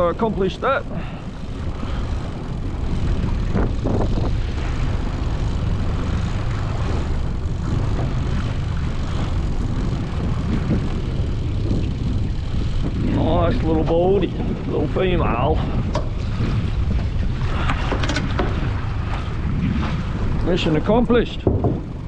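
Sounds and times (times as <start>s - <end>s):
outboard motor droning: 0.0s - 22.0s
wind on microphone: 0.0s - 22.0s.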